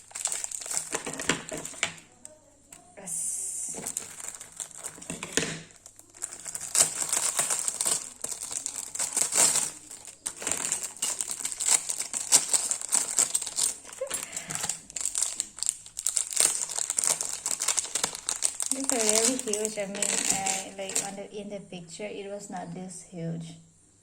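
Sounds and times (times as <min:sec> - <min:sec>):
packaging crinkling: 0:00.0 - 0:21.2.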